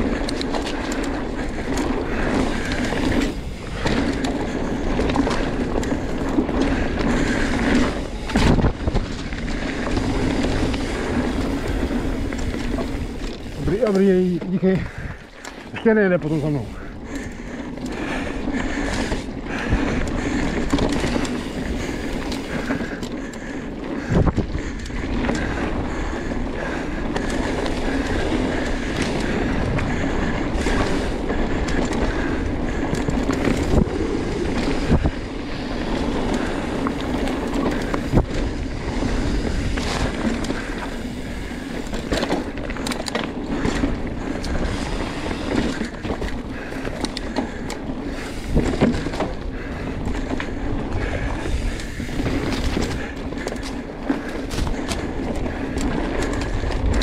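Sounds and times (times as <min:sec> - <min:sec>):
bike rattling over ground: 0:00.0 - 0:57.0
bike tyres rumbling on dirt: 0:00.0 - 0:57.0.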